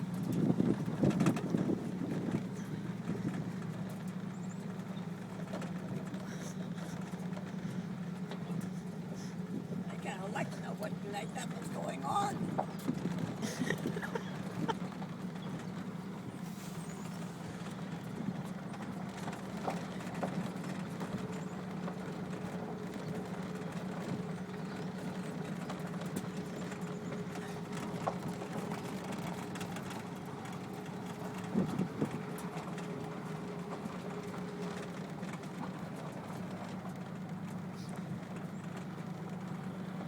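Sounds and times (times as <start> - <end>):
pickup truck engine hum: 0.0 - 40.0.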